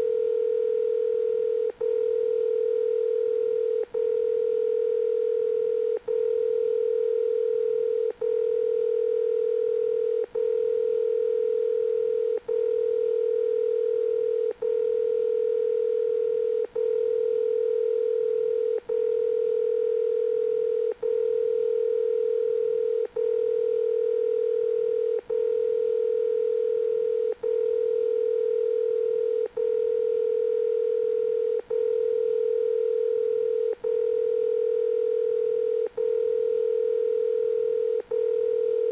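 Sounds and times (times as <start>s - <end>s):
telephone dial tone: 0.0s - 38.9s.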